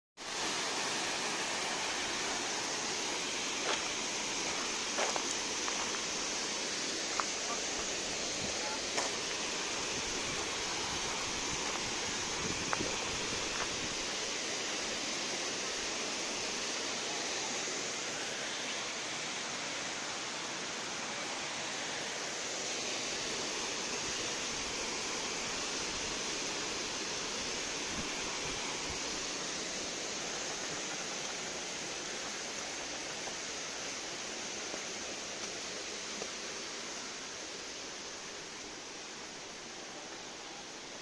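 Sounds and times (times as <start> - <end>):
waterfall rushing: 0.2 - 41.0.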